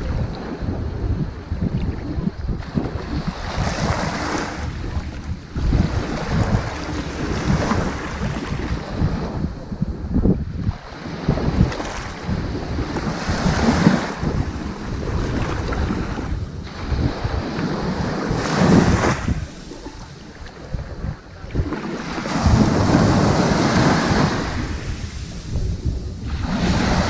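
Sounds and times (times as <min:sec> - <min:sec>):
ocean waves breaking on beach: 0:00.0 - 0:27.0.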